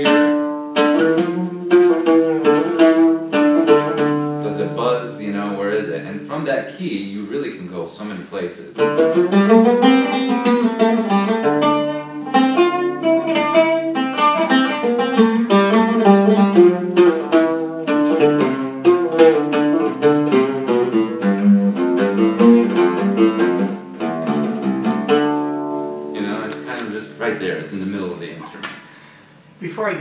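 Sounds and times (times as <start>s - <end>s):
solo oud plucked melody: 0.0s - 6.5s, 8.8s - 27.4s.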